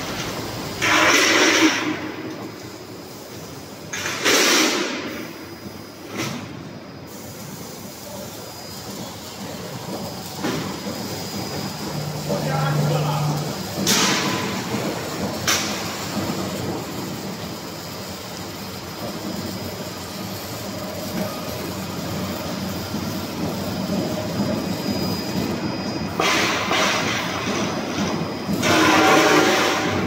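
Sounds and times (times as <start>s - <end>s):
roll forming machine rumbling: 0.0s - 30.0s
rushing hiss: 0.0s - 30.0s.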